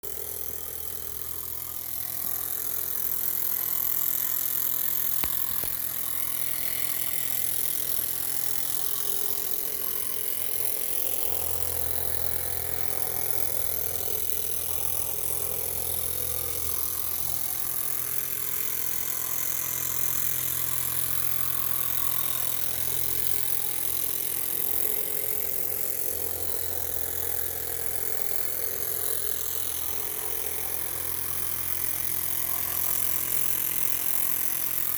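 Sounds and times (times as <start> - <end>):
miniature steam engine hissing: 0.0 - 34.9.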